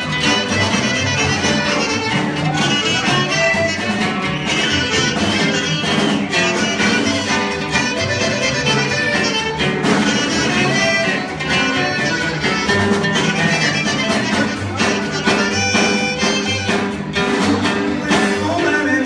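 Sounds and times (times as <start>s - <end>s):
strummed guitar: 0.0s - 19.0s.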